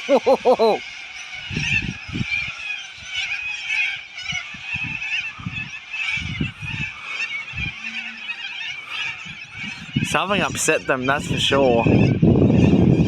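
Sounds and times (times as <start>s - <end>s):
flock of birds calling: 0.0s - 13.0s.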